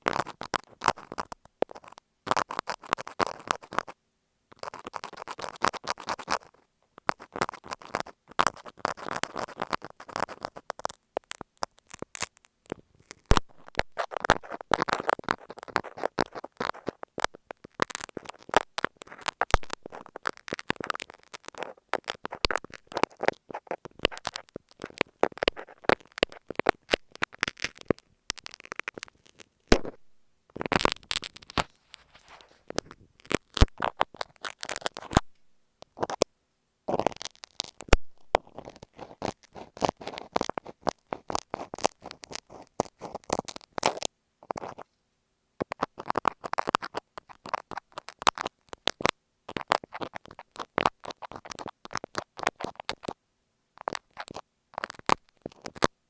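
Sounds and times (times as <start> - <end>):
pins scratching on microphone: 0.0 - 36.3, 36.9 - 44.9, 45.6 - 53.2, 53.8 - 55.9.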